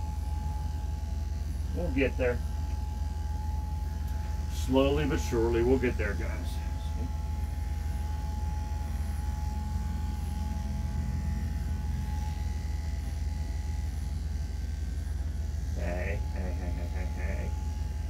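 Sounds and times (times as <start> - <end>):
electric dog clippers running: 0.0 - 18.0
low hum: 0.0 - 18.0.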